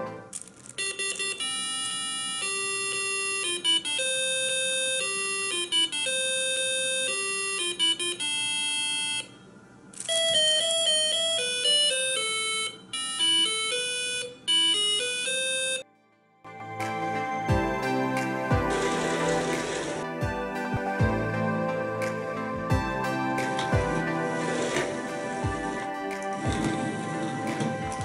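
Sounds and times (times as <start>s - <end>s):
electronic beeping melody: 0.0s - 15.8s, 16.5s - 28.0s.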